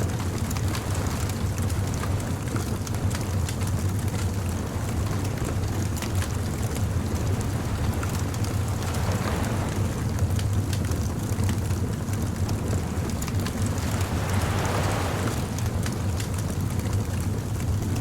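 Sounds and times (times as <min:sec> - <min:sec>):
low rumble of surf: 0:00.0 - 0:18.0
bonfire crackling and popping: 0:00.2 - 0:18.0.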